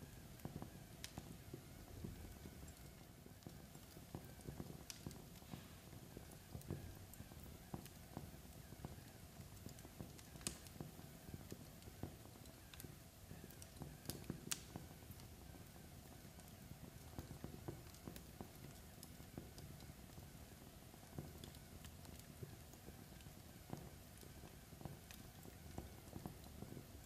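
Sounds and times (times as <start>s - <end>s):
log fire crackling: 0.0s - 27.0s.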